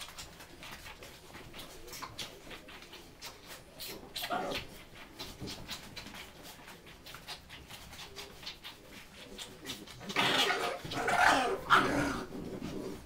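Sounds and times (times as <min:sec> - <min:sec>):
puppies scuffling: 0:00.0 - 0:13.0.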